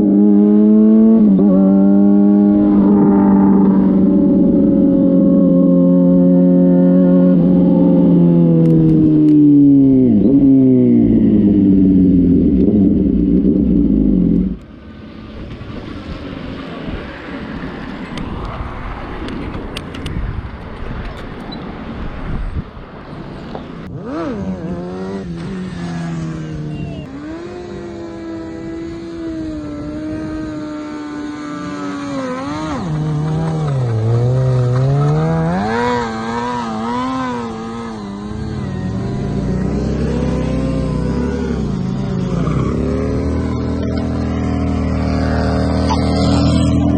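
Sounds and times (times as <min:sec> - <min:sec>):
motorcycle engine revving: 0:00.0 - 0:14.7, 0:23.8 - 0:46.9.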